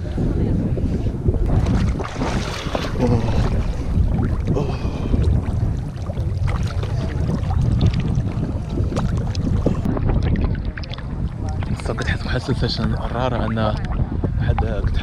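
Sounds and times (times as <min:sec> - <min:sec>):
wind buffeting microphone: 0:00.0 - 0:15.0
water sloshing and splashing: 0:01.4 - 0:15.0.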